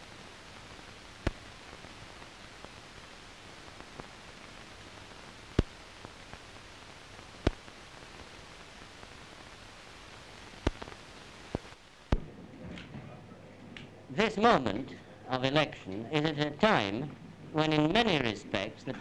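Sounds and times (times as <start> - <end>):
old film soundtrack hiss: 0.0 - 19.0.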